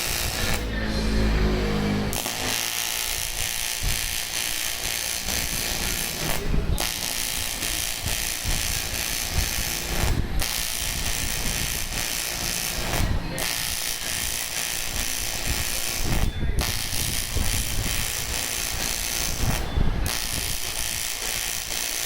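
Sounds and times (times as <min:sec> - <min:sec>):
welding arc hissing crackle: 0:00.0 - 0:22.0.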